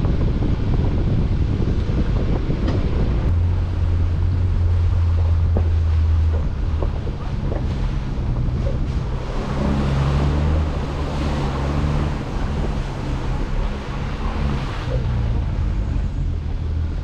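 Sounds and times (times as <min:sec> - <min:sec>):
engine running at low revs: 0:00.0 - 0:17.0
steady rushing noise: 0:00.0 - 0:17.0.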